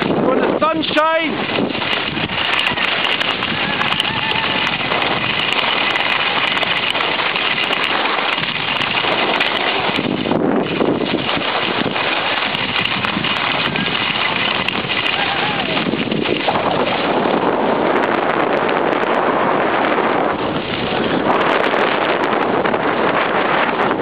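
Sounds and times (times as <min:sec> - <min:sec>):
skis scraping over snow: 0:00.0 - 0:24.0
wind noise on microphone: 0:00.0 - 0:24.0.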